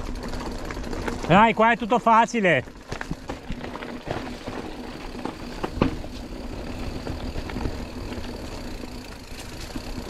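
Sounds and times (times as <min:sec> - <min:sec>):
bike knocking and rattling: 0:00.0 - 0:10.0
bike tyres crunching over stones: 0:00.0 - 0:10.0.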